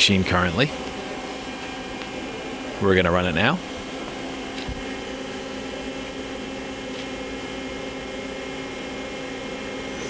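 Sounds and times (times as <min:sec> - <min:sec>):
lathe spindle whine: 0:00.0 - 0:10.0
motor and fan hum: 0:00.0 - 0:10.0.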